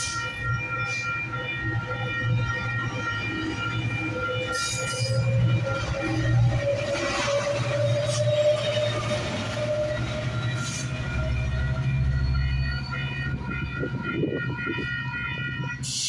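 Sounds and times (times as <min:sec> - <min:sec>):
high ringing tones: 0:00.0 - 0:16.0
locomotive engine hum: 0:00.0 - 0:16.0
rail and wheel noise: 0:00.0 - 0:16.0.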